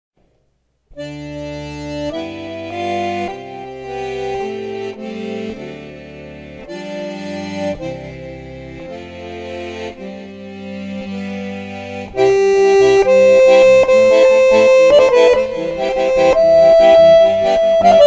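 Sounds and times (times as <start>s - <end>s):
accordions playing: 1.0s - 18.0s.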